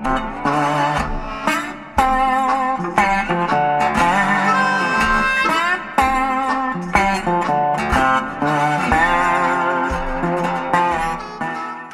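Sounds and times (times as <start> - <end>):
guitar with sliding notes: 0.0 - 11.9.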